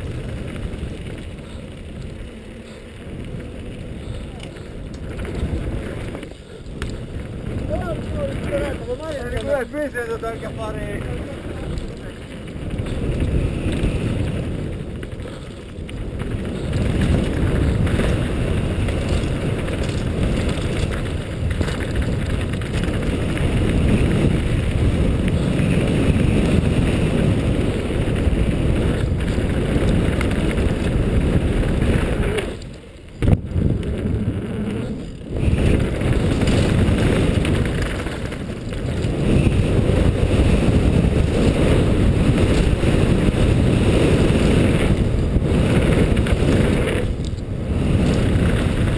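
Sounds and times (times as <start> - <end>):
bike tyres and frame rattling: 0.0 - 48.9
wind buffeting microphone: 0.0 - 48.9.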